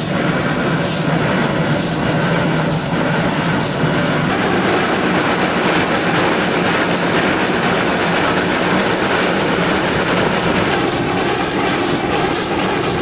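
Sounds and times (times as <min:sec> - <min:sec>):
steam locomotive running: 0:00.0 - 0:13.0.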